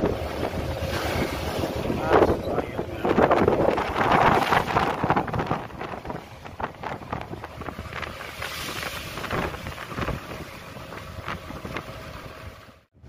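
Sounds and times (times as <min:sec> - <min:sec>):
gusty wind buffeting microphone: 0:00.0 - 0:12.8
water rushing and splashing: 0:00.0 - 0:12.9.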